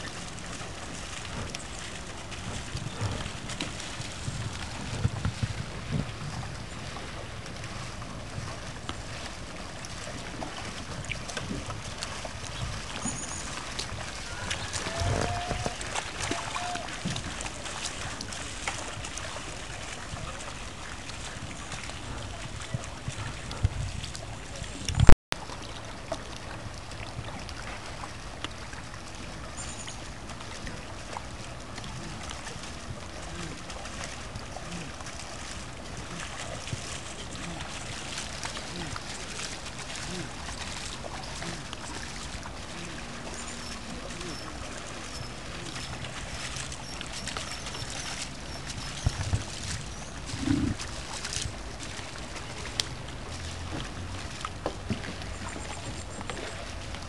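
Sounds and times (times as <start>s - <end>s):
steady low rumble: 0.0s - 46.4s.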